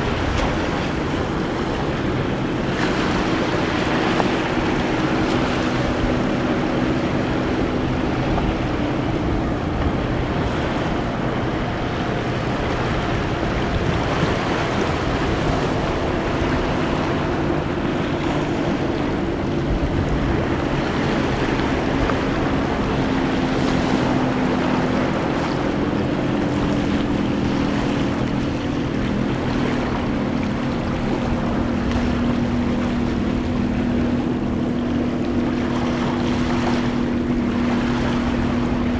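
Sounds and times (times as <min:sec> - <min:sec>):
motorboat engine drone: 0:00.0 - 0:38.9.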